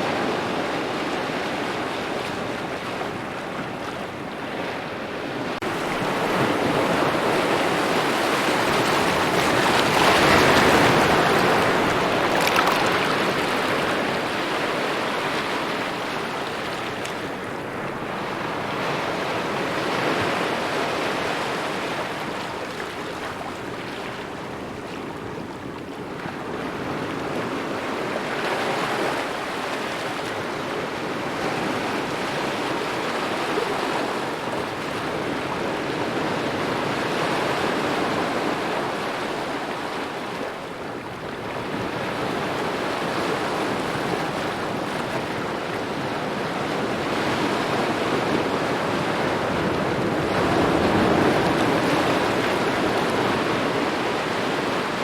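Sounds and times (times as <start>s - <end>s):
small waves lapping on a shore: 0.0s - 55.0s.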